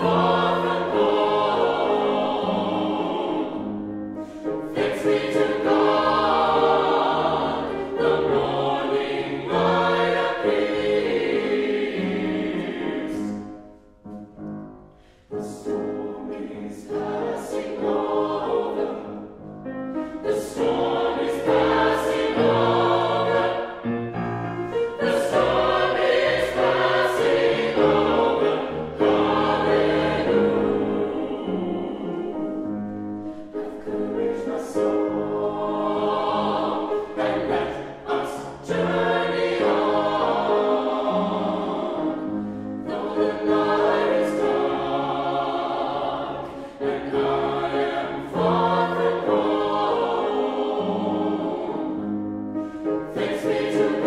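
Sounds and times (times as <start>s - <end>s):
choir singing: 0.0s - 14.2s, 15.2s - 54.0s.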